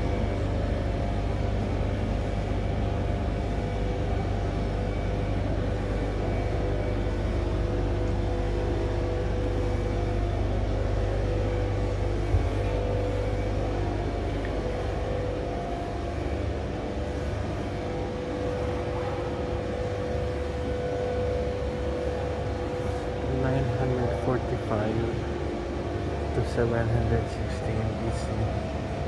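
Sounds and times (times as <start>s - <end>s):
low rumble and hum: 0.0s - 29.0s.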